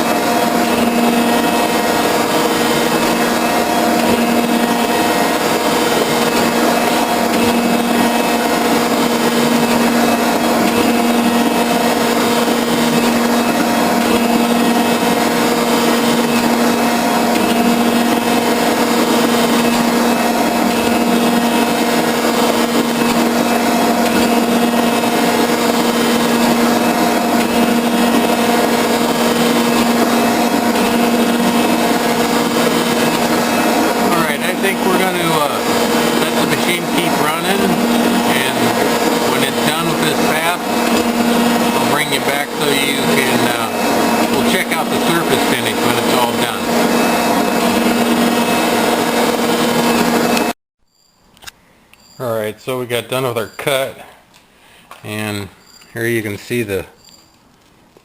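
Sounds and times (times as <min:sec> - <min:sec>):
metal cutting noise: 0:00.0 - 0:50.6
metal shaper machine hum: 0:00.0 - 0:50.6.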